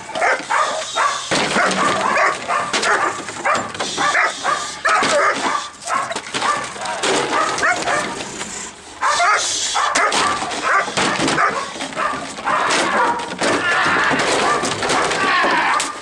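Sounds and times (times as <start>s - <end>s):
dog barking rapidly: 0.0s - 8.2s, 9.0s - 13.4s, 14.3s - 16.0s.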